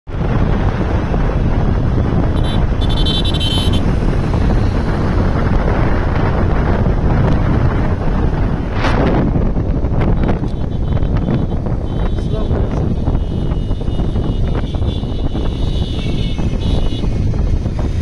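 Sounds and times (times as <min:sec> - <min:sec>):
motorcycle engine and road noise: 0:00.1 - 0:18.0
wind rushing over microphone: 0:00.1 - 0:18.0.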